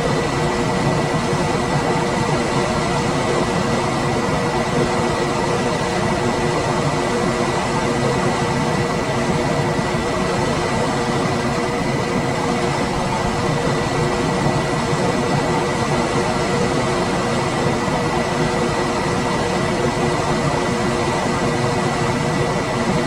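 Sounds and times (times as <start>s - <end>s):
air conditioner running: 0.0s - 23.0s.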